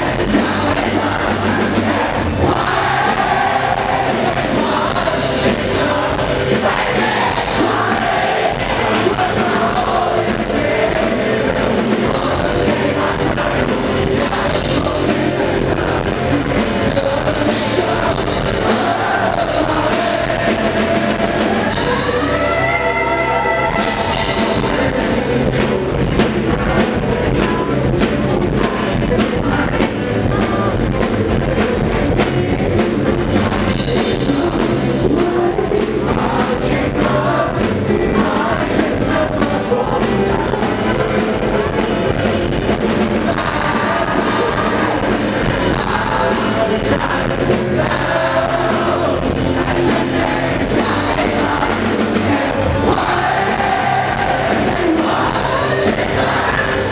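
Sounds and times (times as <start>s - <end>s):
man singing: 0.0s - 56.9s
rock band playing: 0.0s - 56.9s.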